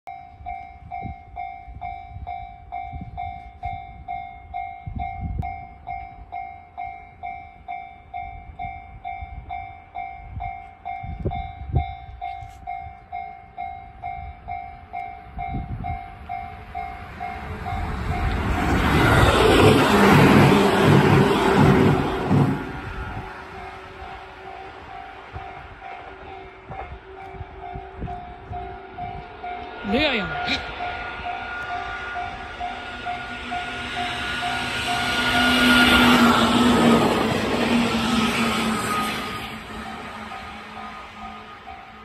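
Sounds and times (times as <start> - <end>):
level crossing warning bell: 0.1 - 42.0
train rumble and wheel clatter: 0.1 - 42.0.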